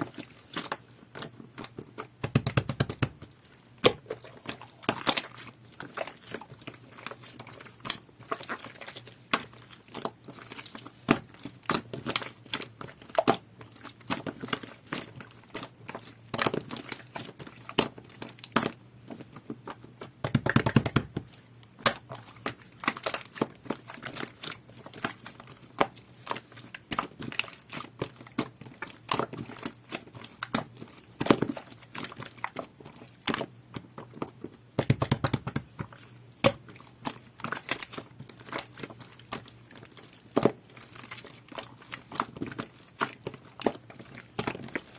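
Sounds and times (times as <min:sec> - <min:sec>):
slime squished by hand: 0:00.0 - 0:44.9.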